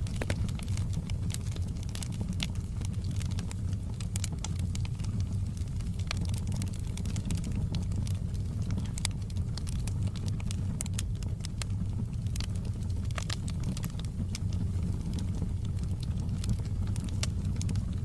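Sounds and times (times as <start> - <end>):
fire flames rumbling: 0.0 - 18.0
logs crackling and popping: 0.0 - 18.0.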